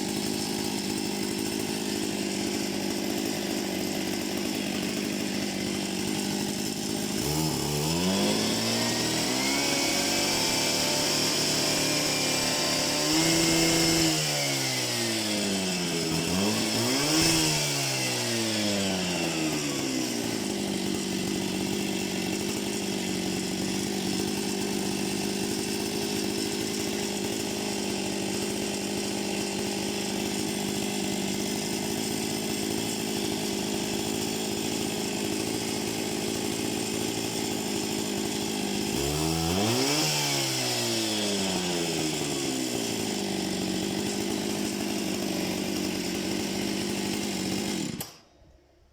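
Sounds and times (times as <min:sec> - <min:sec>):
concrete saw idling and revving: 0:00.0 - 0:48.9.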